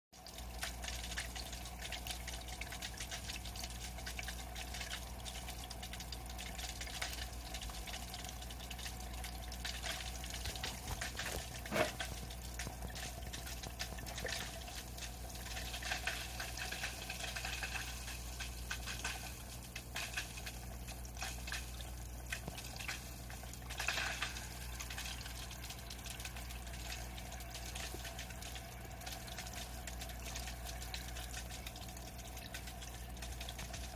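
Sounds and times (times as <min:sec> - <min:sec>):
filter motor hum: 0:00.2 - 0:33.9
splashing pouring water: 0:00.2 - 0:33.9.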